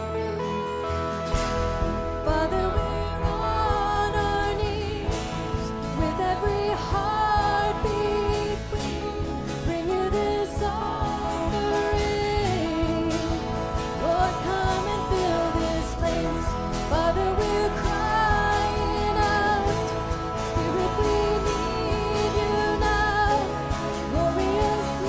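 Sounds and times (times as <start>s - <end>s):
bass guitar: 0.0s - 25.0s
electric guitar: 0.0s - 25.0s
woman singing: 2.0s - 25.0s.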